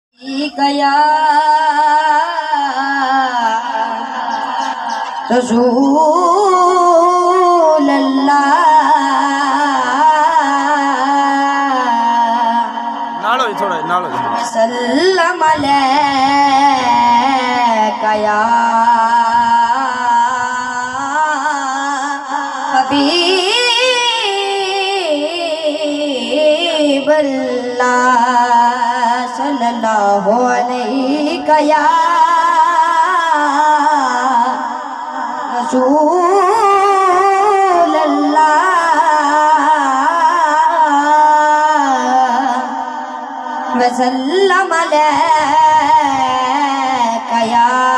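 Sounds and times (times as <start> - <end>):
boy singing into a microphone: 0.2 - 47.9.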